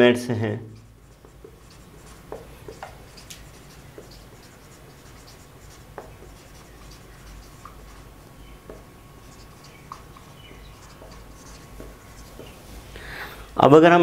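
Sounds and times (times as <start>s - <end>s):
marker scratching on whiteboard: 0.7s - 12.9s.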